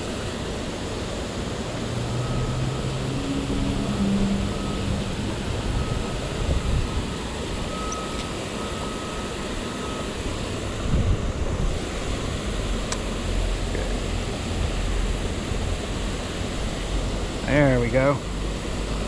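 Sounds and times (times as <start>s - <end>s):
wind rumbling on microphone: 0.0s - 9.0s, 9.9s - 19.0s.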